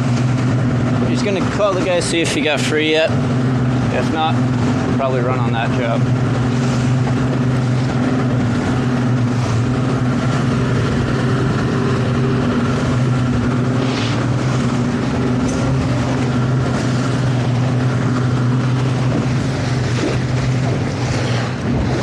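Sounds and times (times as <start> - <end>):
boat engine low hum: 0.0 - 22.0.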